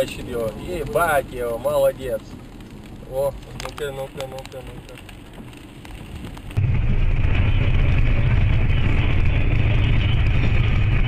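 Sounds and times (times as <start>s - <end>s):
vehicle rumble and road noise: 0.0s - 11.0s.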